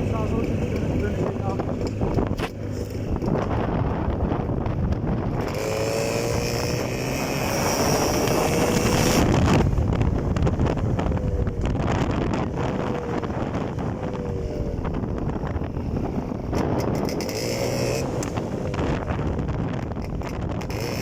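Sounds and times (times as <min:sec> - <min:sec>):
motorcycle engine accelerating: 0:00.0 - 0:21.0
wind on microphone: 0:00.0 - 0:21.0.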